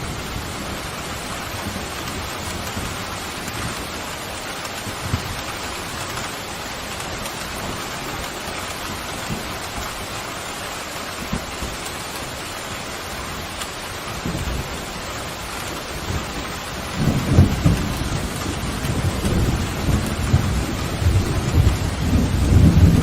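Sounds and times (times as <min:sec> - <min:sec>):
steady pouring rain: 0:00.0 - 0:23.0.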